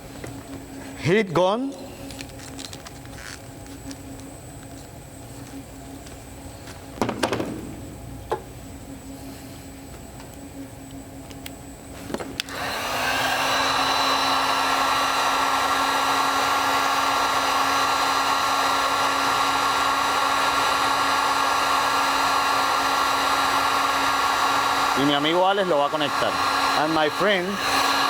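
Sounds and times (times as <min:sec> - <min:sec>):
heat gun fan whining: 0:00.0 - 0:28.0.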